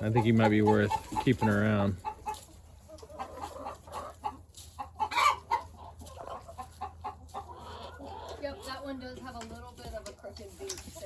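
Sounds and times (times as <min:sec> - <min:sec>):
roosters clucking: 0:00.0 - 0:11.0.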